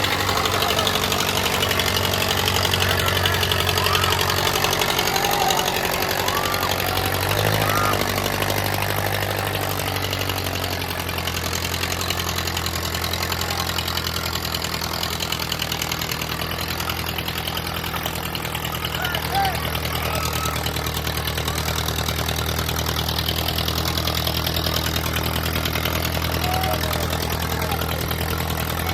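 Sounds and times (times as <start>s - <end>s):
tractor engine knocking clatter: 0.0s - 28.9s.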